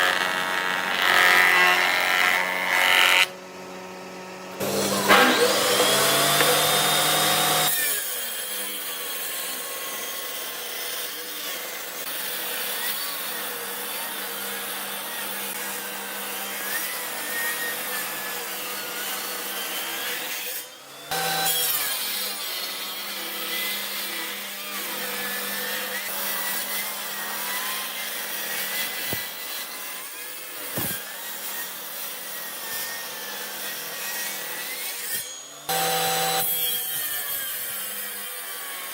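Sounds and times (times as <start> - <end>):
power tool rasping wood: 0.0 - 38.9.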